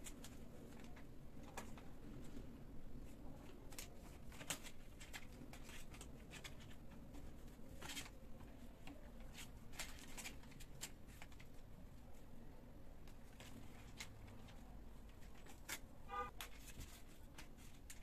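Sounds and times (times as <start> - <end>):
faint room hum: 0.0 - 18.0.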